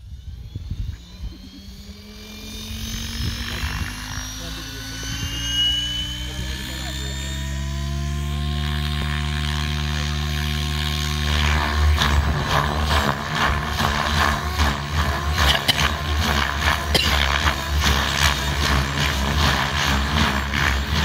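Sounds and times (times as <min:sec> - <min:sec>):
model helicopter rotor and motor: 0:00.0 - 0:21.0
rotor blades swooshing: 0:00.0 - 0:21.0.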